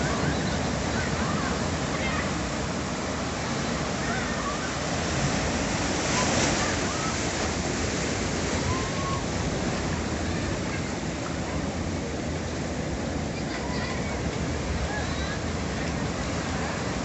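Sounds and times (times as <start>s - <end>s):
ocean surf on rocky shore: 0.0s - 17.0s.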